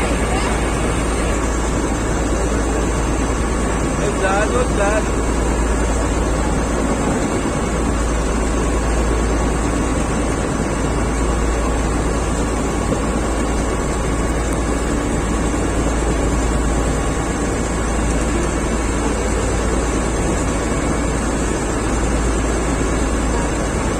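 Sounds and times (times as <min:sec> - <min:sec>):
ferry engine running: 0:00.0 - 0:23.9.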